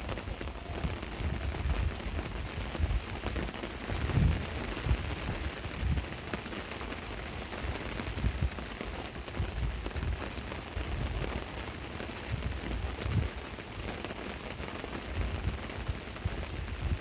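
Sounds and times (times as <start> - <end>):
rain pattering on a tarp: 0.0 - 17.0.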